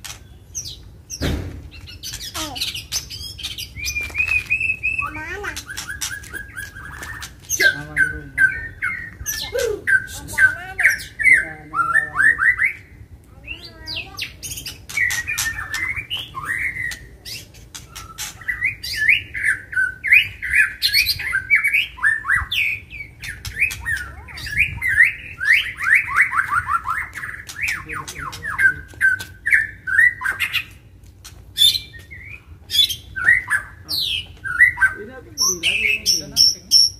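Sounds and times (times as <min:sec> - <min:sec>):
songbird whistling song: 0:00.1 - 0:30.8, 0:31.6 - 0:36.9.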